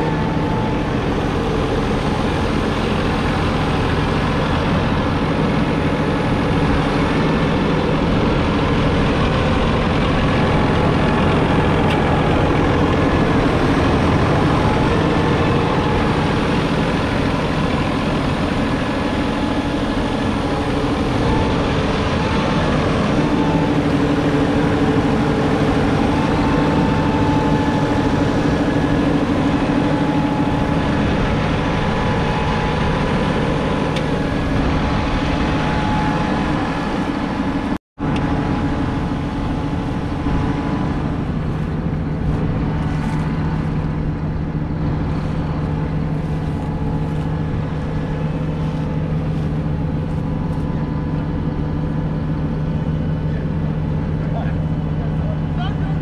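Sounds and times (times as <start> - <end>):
diesel engine running: 0.0 - 56.0
whine above engine: 0.0 - 56.0.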